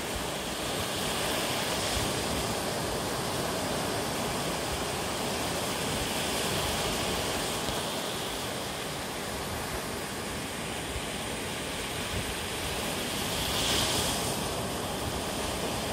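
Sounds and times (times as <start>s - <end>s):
surf washing up beach: 0.0s - 15.9s.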